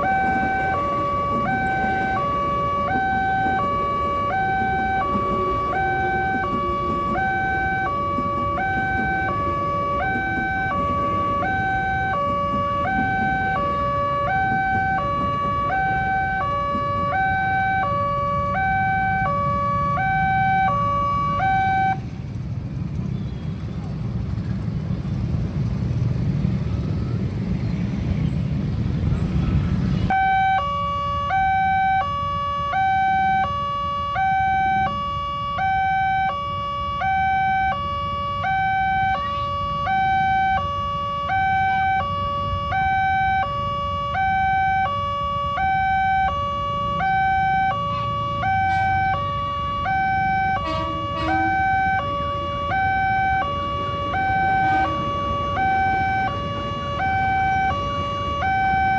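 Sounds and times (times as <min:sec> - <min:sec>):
two-tone electronic warning alarm: 0:00.0 - 0:22.1, 0:30.0 - 0:58.9
road traffic rumble: 0:00.0 - 0:58.9.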